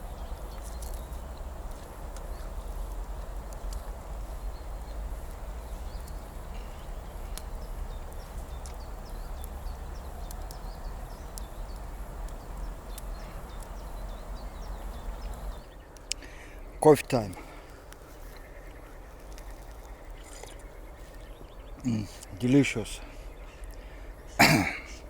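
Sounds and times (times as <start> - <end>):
faint clicks: 0.0 - 16.4, 17.2 - 21.4, 23.6 - 23.9.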